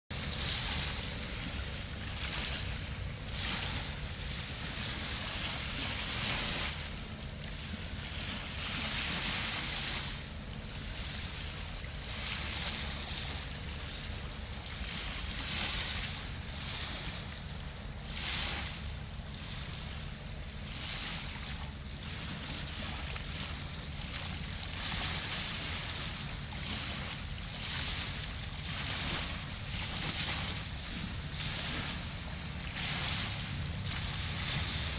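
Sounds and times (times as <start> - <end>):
river waves washing against bank: 0.1 - 34.9
steady low rumble: 0.1 - 34.9.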